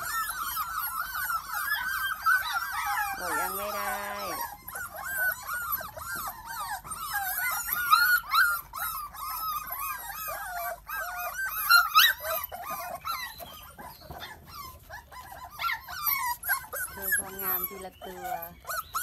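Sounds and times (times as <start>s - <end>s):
puppies whining and yelping: 0.0s - 19.0s.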